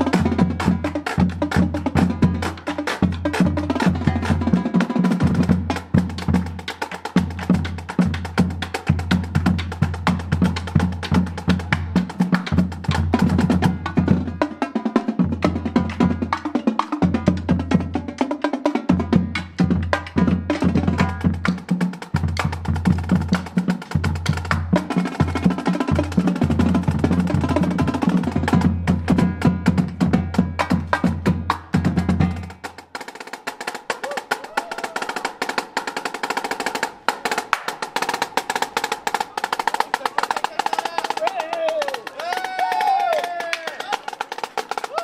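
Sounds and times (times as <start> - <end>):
marching drumline playing: 0.0 - 45.0.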